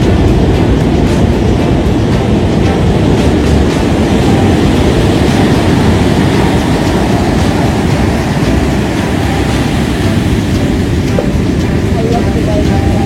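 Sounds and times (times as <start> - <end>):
moving vehicle rumbling: 0.0 - 13.0.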